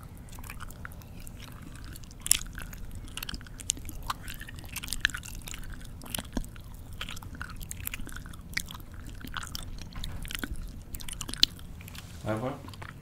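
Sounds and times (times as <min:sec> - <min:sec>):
mouth chewing with lip-smacking: 0:00.0 - 0:13.0.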